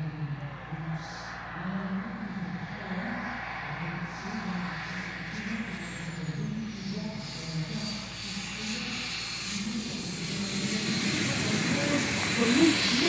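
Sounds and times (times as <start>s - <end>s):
model jet turbine whine: 0.0s - 13.0s.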